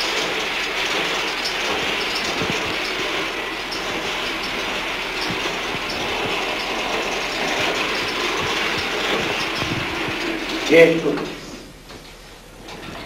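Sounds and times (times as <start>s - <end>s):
hand-cranked wheel rattling and clicking: 0.0s - 11.5s.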